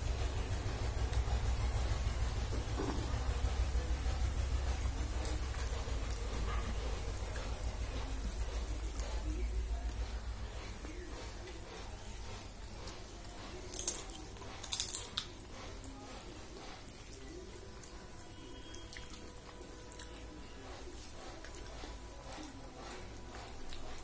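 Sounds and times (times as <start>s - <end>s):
steady low hum: 0.0s - 24.0s
chewing: 2.4s - 24.0s.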